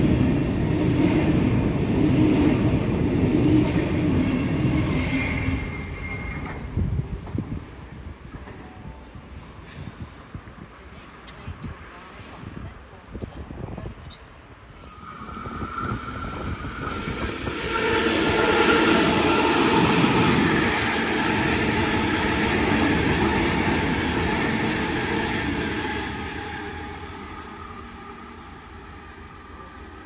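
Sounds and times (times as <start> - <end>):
electric train passing: 0.0 - 13.8, 14.4 - 30.0.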